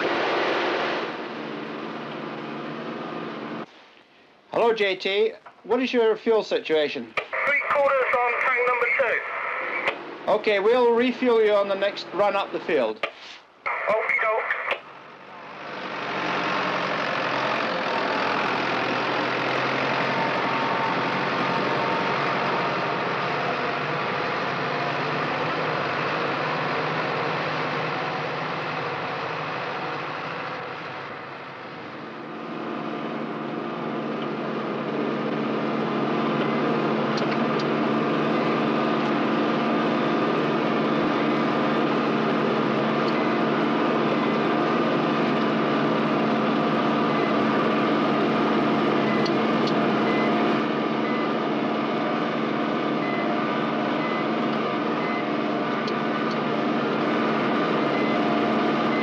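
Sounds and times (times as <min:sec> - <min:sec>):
tractor diesel engine running: 0:00.0 - 0:06.0, 0:07.2 - 0:13.0, 0:13.7 - 0:59.0.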